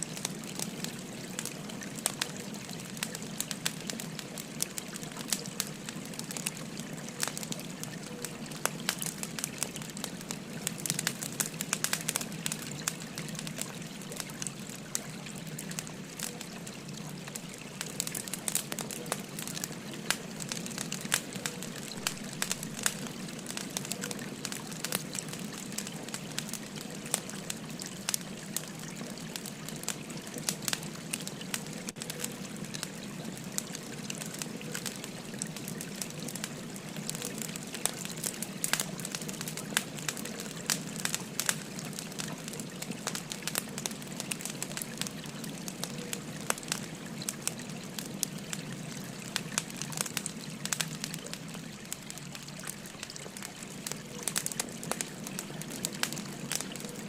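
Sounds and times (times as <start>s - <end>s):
firewood crackling: 0.0s - 57.0s
flowing stream: 0.0s - 57.0s.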